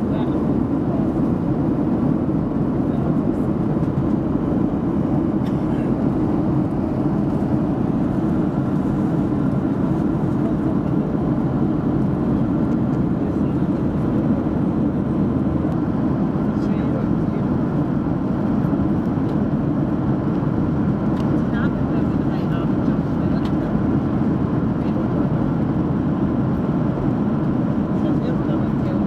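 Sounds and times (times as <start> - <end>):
airliner cabin noise: 0.0 - 29.0.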